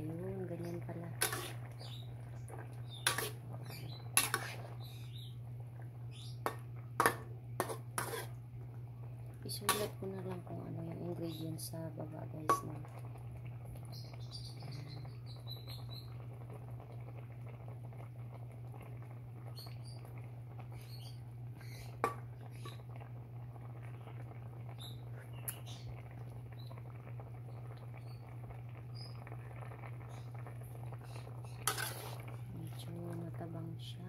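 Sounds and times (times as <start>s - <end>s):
steady low hum: 0.0s - 34.0s
stew bubbling in a pot: 0.0s - 34.0s.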